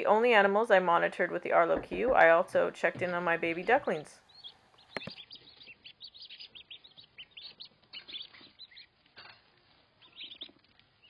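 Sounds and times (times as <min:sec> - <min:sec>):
ducklings peeping: 0:01.2 - 0:11.0.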